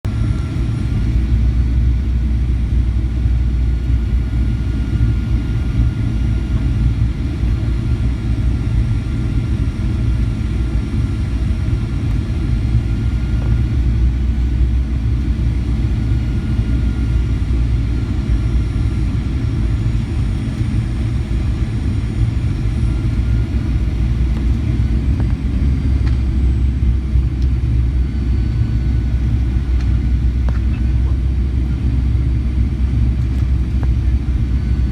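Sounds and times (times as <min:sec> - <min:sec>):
jet engine cabin rumble: 0:00.0 - 0:34.9
faint steady whine: 0:00.1 - 0:34.9.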